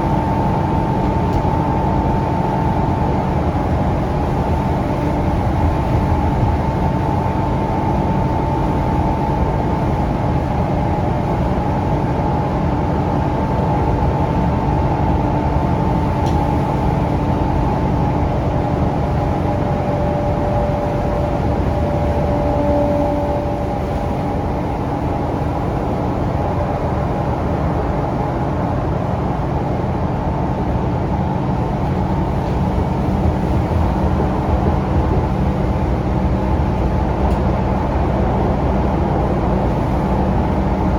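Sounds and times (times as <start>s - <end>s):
bus engine low rumble: 0.0s - 40.9s
road noise: 0.0s - 40.9s.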